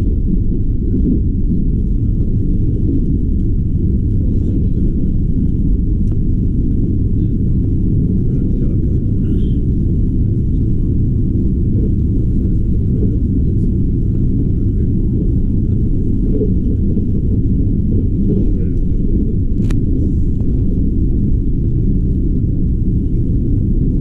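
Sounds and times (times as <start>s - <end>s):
moving train rumble: 0.0s - 24.0s.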